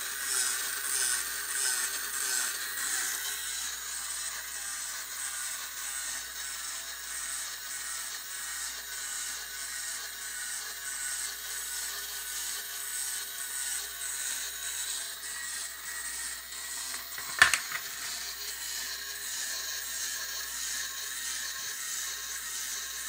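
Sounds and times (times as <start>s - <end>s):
small electric motor whirring: 0.0s - 23.0s.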